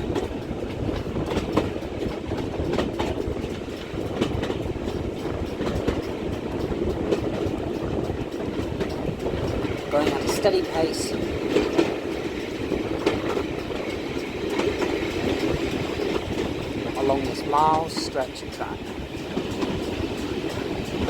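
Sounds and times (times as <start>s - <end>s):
train wheels rumbling on track: 0.0s - 21.0s
wheels clicking over rail joints: 0.0s - 21.0s.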